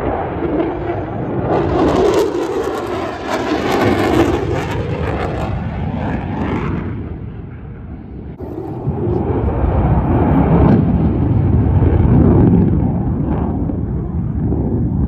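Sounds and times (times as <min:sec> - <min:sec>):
aircraft flying past: 0:00.0 - 0:15.0.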